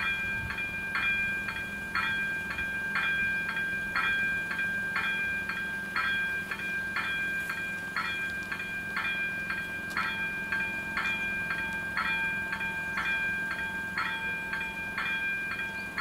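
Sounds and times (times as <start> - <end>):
level crossing warning bell ringing: 0.0 - 16.0.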